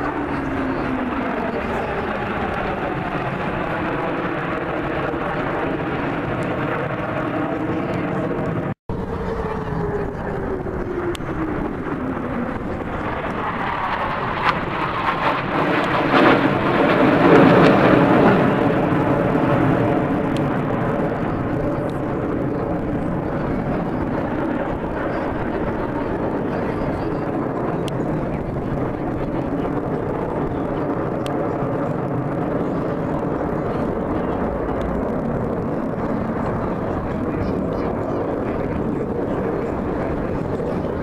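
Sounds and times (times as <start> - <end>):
aircraft flying past: 0.0 - 41.0.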